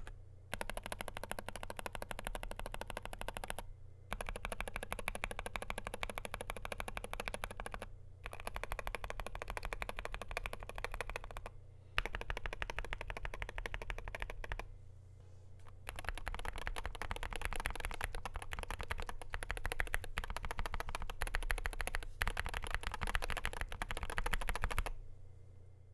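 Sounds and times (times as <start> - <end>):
keyboard typing clacks: 0.0 - 14.7, 15.6 - 24.9
steady low hum: 0.0 - 25.9.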